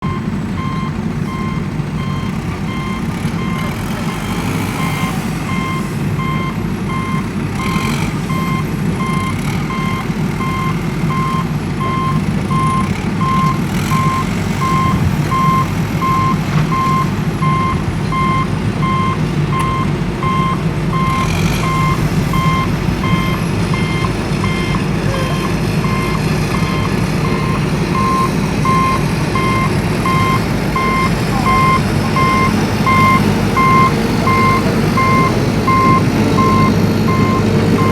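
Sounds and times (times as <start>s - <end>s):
reversing alarm beeping: 0.0s - 37.9s.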